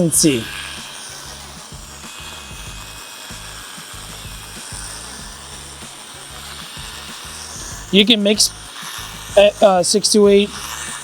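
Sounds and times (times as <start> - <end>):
background music with bass line: 0.0 - 11.0
power mixer whirring: 0.0 - 11.0.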